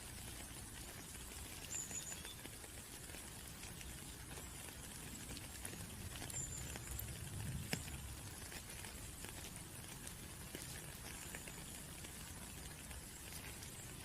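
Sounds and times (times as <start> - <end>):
rain falling: 0.0 - 14.0
raindrops ticking: 0.0 - 14.0.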